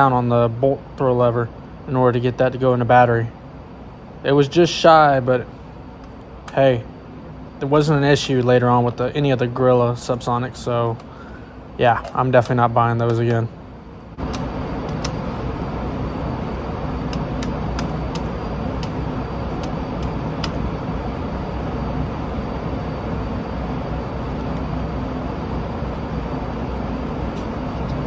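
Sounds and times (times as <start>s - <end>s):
ventilation system roaring: 0.0s - 28.0s.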